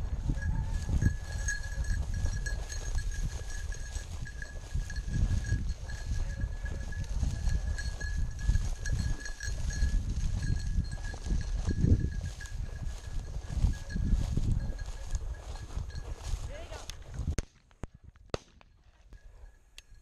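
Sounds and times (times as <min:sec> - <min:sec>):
footsteps through dry stubble: 0:00.0 - 0:17.3
wind buffeting microphone: 0:00.0 - 0:18.1
dog collar bell jingling: 0:00.2 - 0:16.9, 0:19.2 - 0:20.0.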